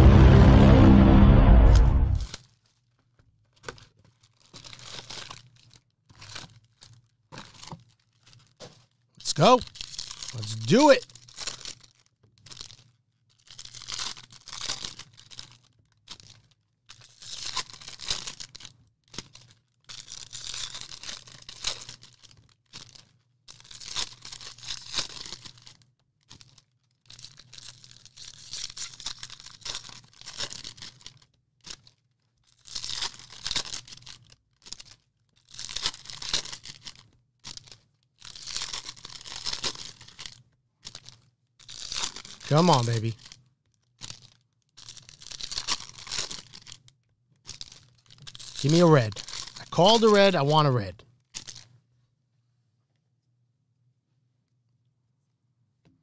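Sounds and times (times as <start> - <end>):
wrappers tearing and crinkling: 3.6 - 46.8, 47.5 - 50.2, 51.3 - 51.7.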